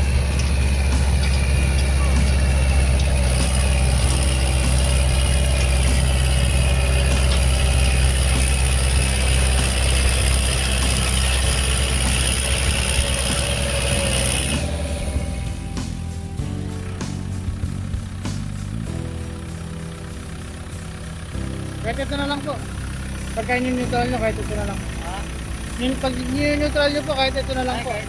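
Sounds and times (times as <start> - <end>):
diesel tractor engine running: 0.0 - 28.0.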